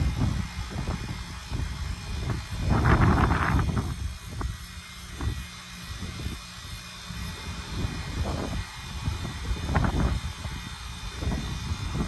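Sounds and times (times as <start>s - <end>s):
heat pump humming: 0.0s - 12.0s
wind buffets on microphone: 0.0s - 12.0s.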